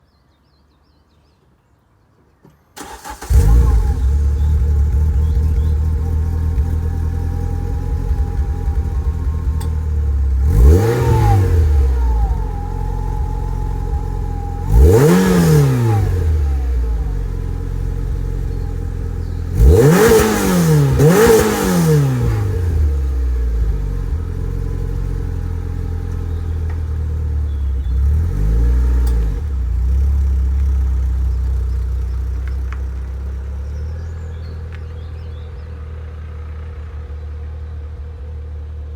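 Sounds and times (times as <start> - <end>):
car engine starting and revving: 2.8 - 38.6.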